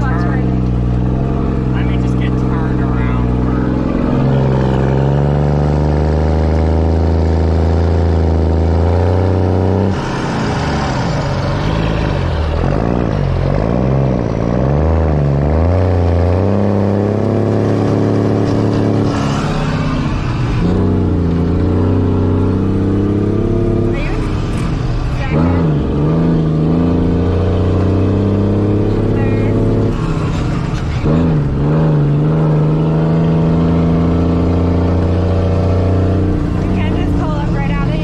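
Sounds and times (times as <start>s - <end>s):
diesel farm machinery engine: 0.0s - 38.0s.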